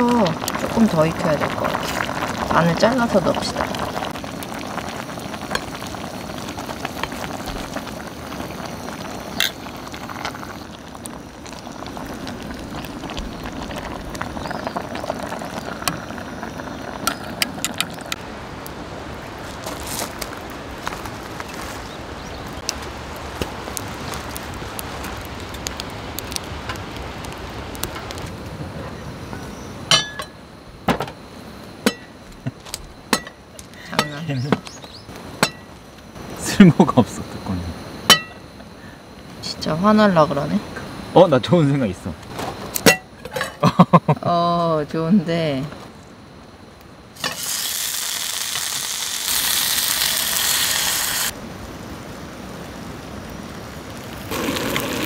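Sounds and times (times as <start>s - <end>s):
pot bubbling and sizzling: 0.0s - 55.0s.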